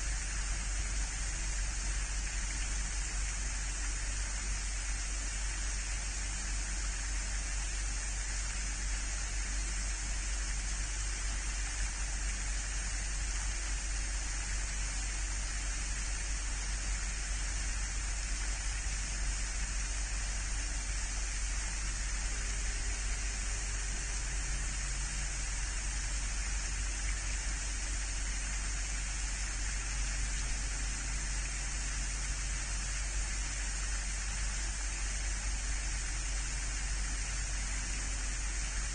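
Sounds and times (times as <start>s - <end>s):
constant low hum: 0.0s - 38.9s
steady hiss: 0.0s - 38.9s.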